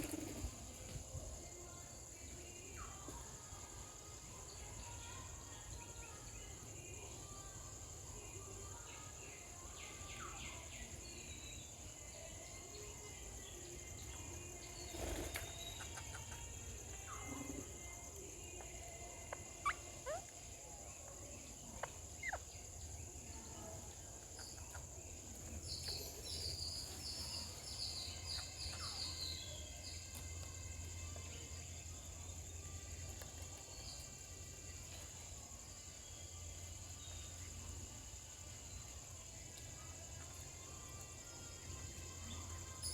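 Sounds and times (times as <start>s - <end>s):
high-pitched insect drone: 1.6s - 42.9s.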